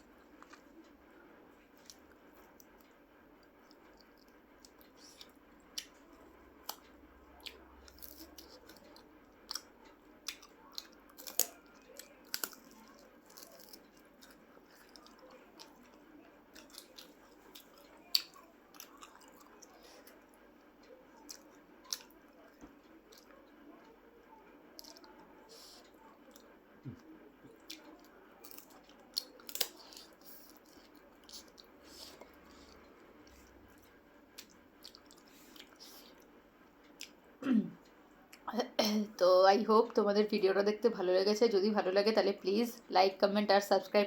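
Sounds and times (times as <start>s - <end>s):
person chewing food: 0.0s - 1.0s, 1.6s - 23.8s, 24.7s - 37.2s.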